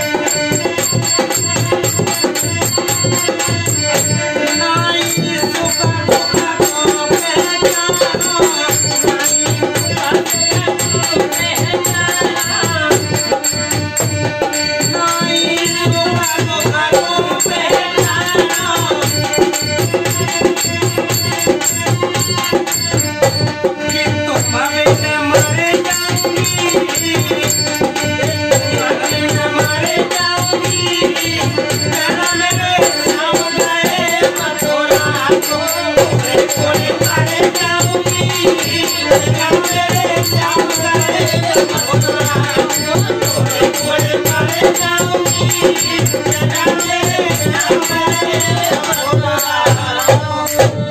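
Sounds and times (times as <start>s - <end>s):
hand drum beating rhythm: 0.0s - 50.9s
harmonium playing: 0.0s - 50.9s
men singing: 0.0s - 50.9s.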